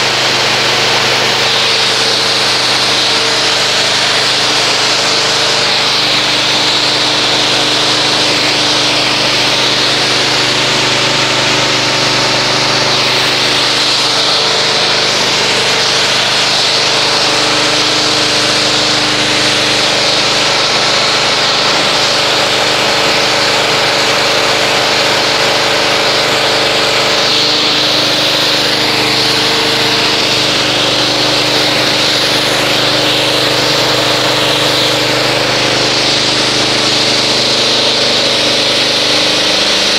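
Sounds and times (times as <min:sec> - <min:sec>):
pressure washer running: 0:00.0 - 0:39.9
water spray hissing on car: 0:00.0 - 0:39.9.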